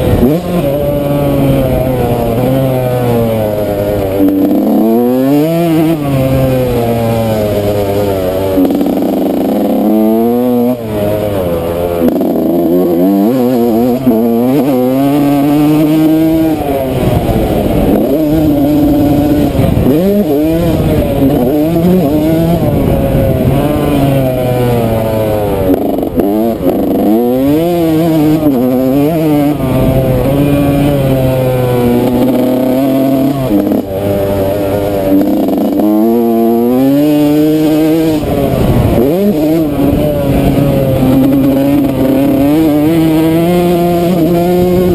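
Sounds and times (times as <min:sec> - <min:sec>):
motocross engine revving: 0:00.0 - 0:44.9.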